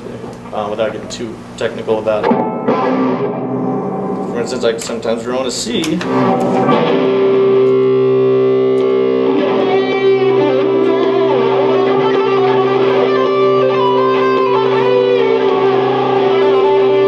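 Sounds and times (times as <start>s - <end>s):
electric guitar lead line: 2.1s - 17.0s
electric guitar drone note: 2.2s - 17.0s.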